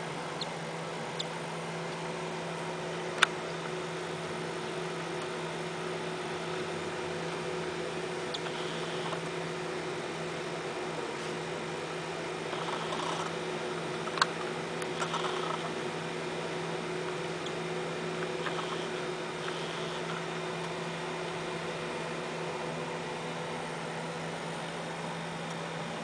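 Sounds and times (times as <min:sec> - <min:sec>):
fan humming: 0:00.0 - 0:26.0.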